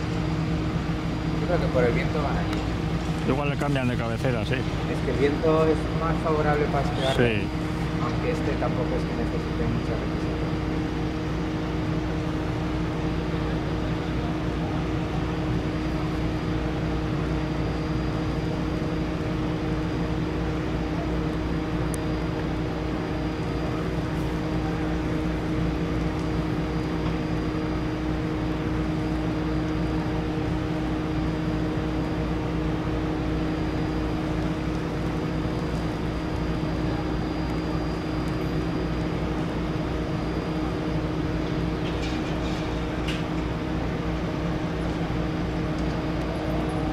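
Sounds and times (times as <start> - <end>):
engine idling drone: 0.0 - 46.9.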